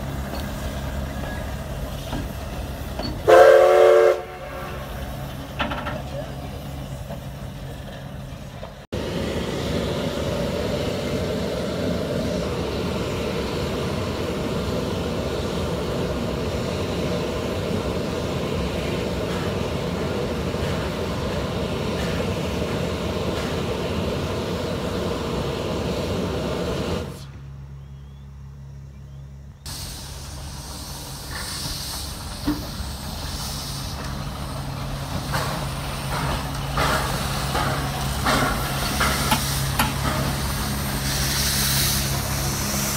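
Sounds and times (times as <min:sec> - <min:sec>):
steam locomotive hissing: 0:00.0 - 0:27.4, 0:29.6 - 0:42.9.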